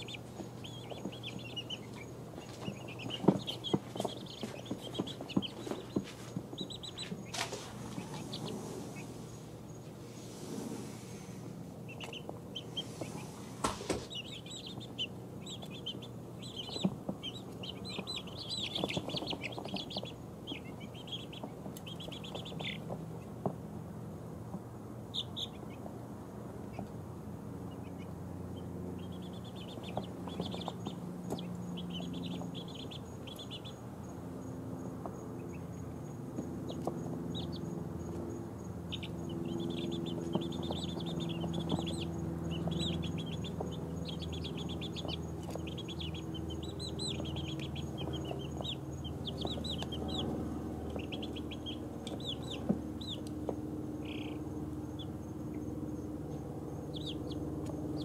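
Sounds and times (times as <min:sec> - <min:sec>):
chicks peeping: 0:00.0 - 0:58.0
low steady hum: 0:00.0 - 0:58.0.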